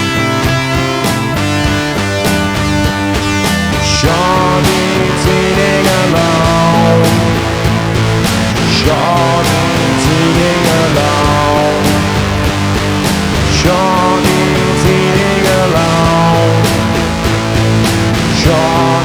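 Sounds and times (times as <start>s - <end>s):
bass and drums beat: 0.0s - 19.0s
electric guitar lines: 0.0s - 19.0s.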